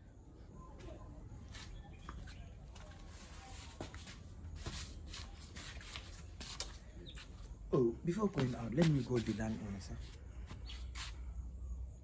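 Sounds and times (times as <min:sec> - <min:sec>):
footsteps walking: 0:00.8 - 0:11.2.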